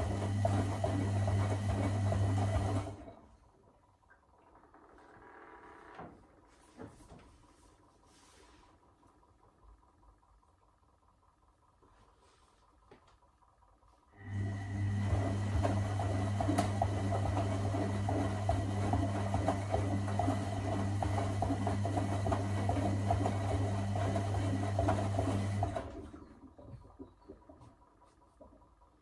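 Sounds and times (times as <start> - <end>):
washing machine motor humming: 0.0 - 8.2, 8.8 - 29.0.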